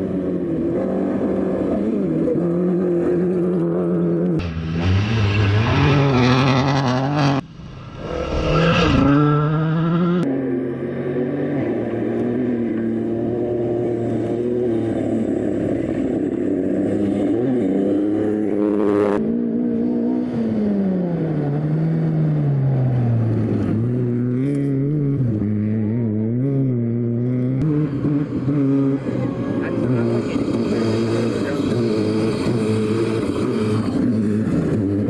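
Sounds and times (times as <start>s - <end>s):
car engine revving high: 0.0s - 35.0s.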